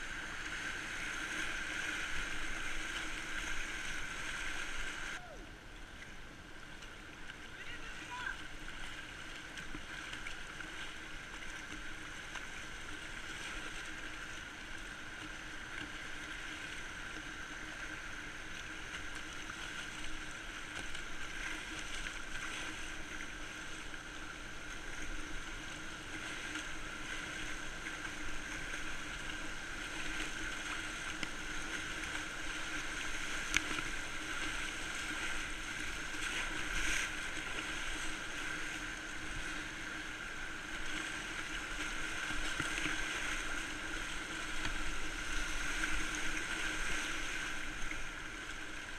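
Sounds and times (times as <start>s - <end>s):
paddle splashes: 0.0s - 48.9s.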